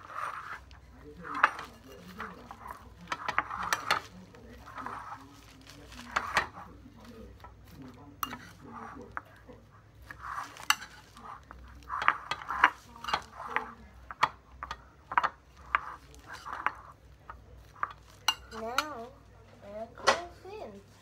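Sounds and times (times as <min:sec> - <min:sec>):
spoon scraping ceramic bowl: 0:00.0 - 0:19.1.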